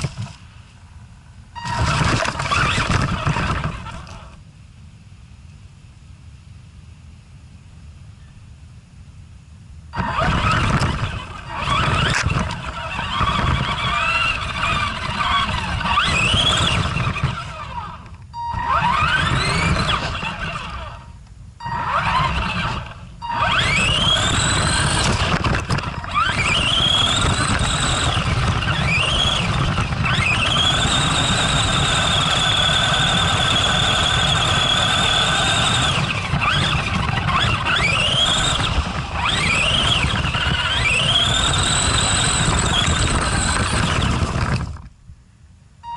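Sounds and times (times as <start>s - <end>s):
rc truck electric motor whining: 1.6s - 4.4s, 10.0s - 44.9s.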